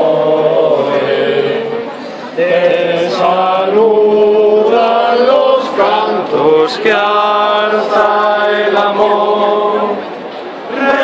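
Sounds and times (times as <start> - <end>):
group singing devotional song: 0.0 - 10.1, 10.7 - 11.0.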